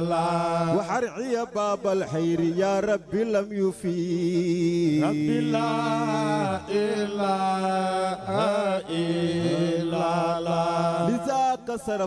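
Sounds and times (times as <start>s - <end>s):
man chanting devotional verse: 0.0s - 12.0s.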